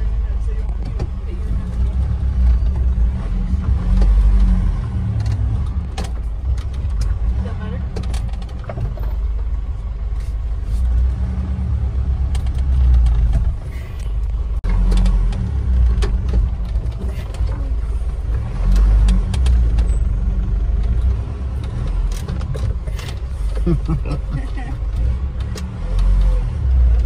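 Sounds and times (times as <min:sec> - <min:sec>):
diesel engine rumble: 0:00.0 - 0:27.0.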